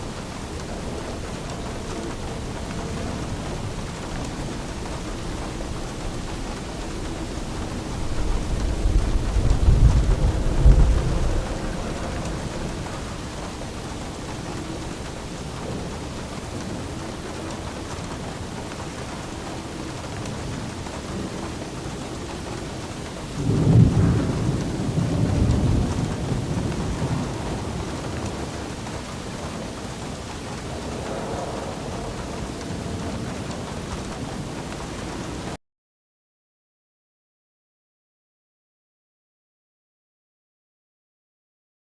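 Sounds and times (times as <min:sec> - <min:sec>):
steady rain: 0:00.0 - 0:35.6
thunder rumbling: 0:00.0 - 0:35.6.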